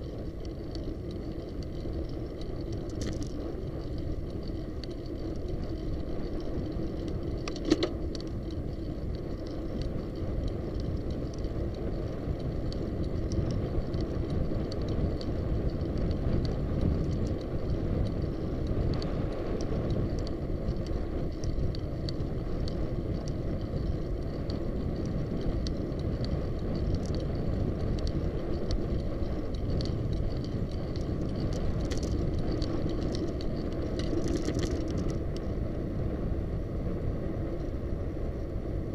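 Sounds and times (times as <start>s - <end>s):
small clicks and rattles: 0.0s - 35.6s
tyres rolling on pavement: 0.0s - 38.9s
wind rumbling on microphone: 0.0s - 38.9s.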